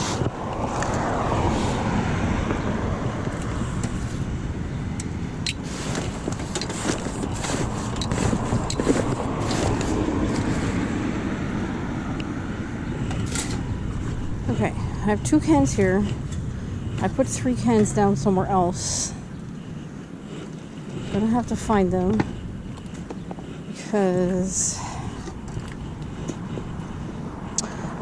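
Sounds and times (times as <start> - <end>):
road traffic passing: 0.0 - 28.0
wind on microphone: 0.0 - 28.0.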